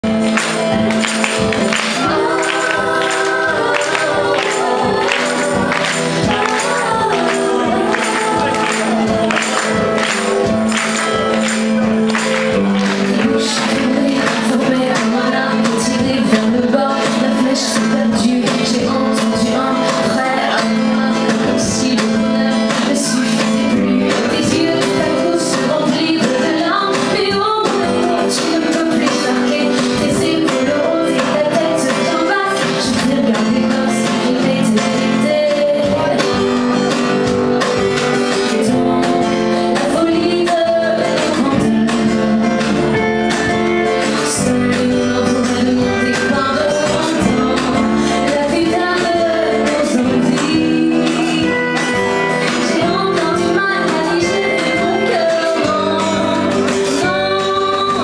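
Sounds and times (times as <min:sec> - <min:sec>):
band playing pop song: 0:00.0 - 0:58.0
woman singing: 0:00.0 - 0:58.0.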